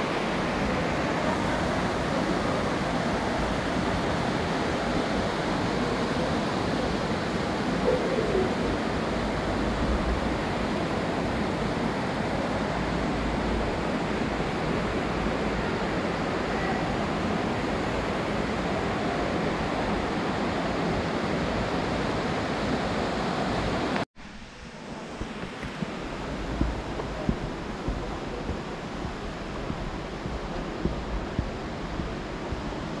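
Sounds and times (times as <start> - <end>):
falling water rushing: 0.0 - 33.0.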